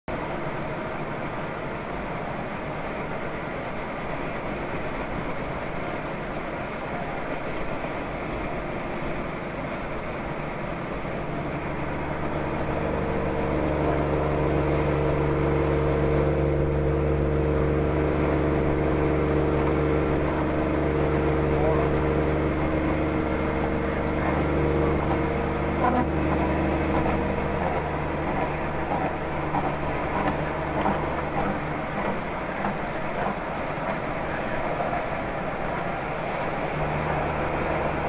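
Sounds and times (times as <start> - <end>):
truck road and engine drone: 0.0 - 38.0
low engine hum: 0.1 - 38.0.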